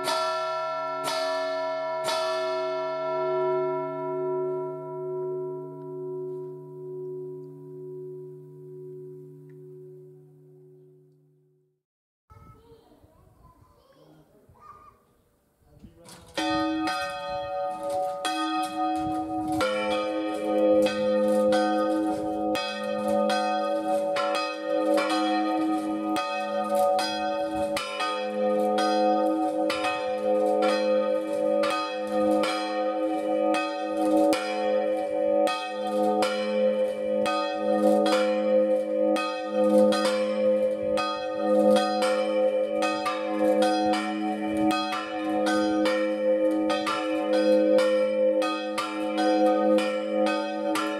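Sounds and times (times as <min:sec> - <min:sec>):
church bells pealing: 0:00.0 - 0:11.0, 0:16.3 - 0:50.9.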